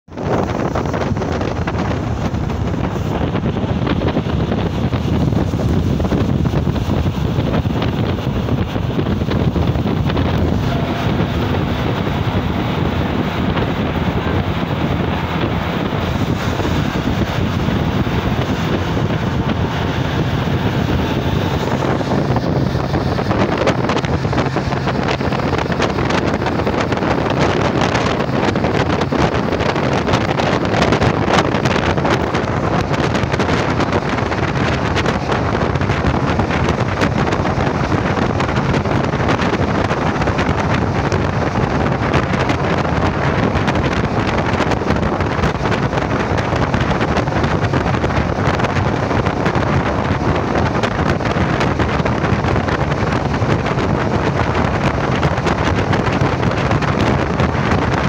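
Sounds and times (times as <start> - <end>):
low engine hum: 0.0 - 58.0
wind rushing over microphone: 0.0 - 58.0
tyre and road noise: 0.1 - 58.0.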